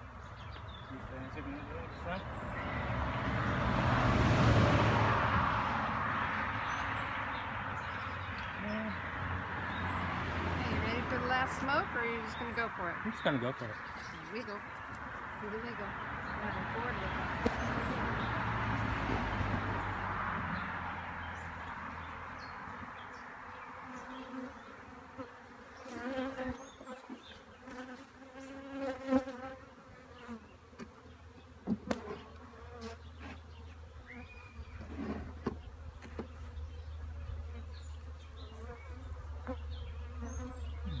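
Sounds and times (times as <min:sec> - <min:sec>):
honey bees buzzing: 0:00.0 - 0:41.0.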